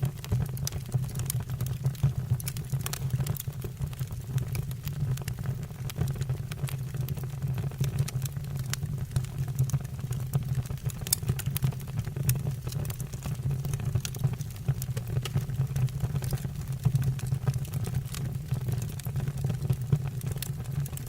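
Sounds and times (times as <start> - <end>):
burning logs crackling and popping: 0.0 - 21.0
low rumble of flames: 0.0 - 21.0.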